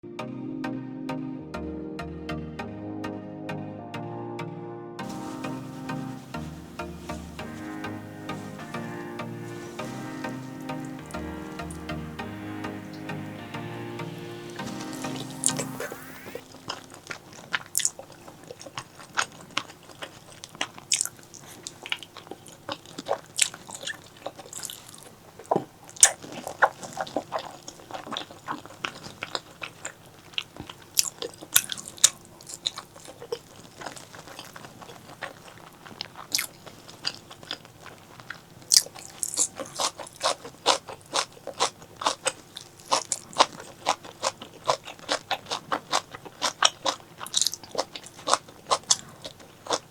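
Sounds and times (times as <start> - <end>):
person chewing with mouth clicks: 5.0 - 12.3, 14.2 - 49.9.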